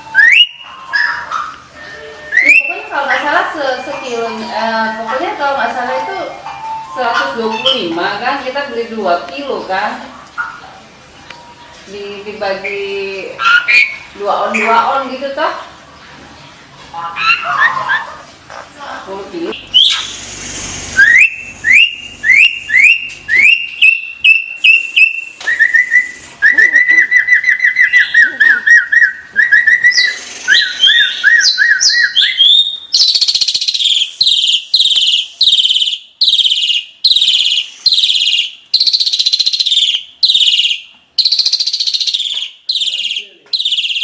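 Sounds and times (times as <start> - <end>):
starling singing: 0.0 - 44.0.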